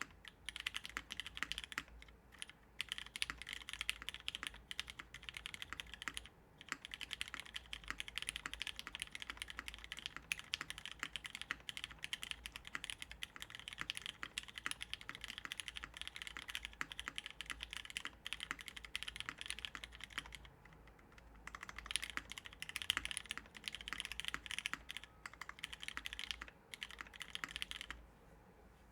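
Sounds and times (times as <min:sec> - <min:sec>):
fast mechanical keyboard typing: 0:00.0 - 0:28.0.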